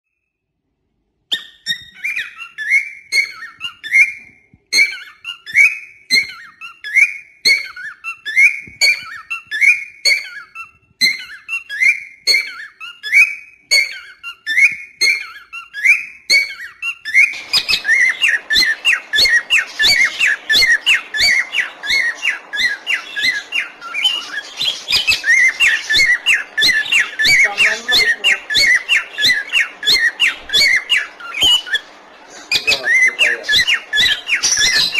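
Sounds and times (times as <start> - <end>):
background noise: 0.1 - 34.9
parakeet shrill calls: 1.3 - 34.9.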